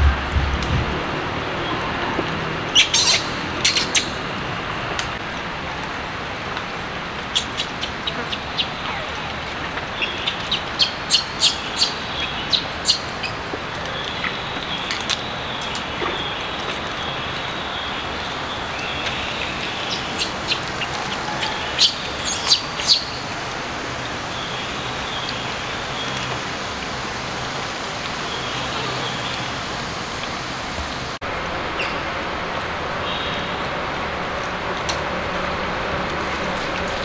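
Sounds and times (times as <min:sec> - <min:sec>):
outdoor background hiss: 0:00.0 - 0:37.0.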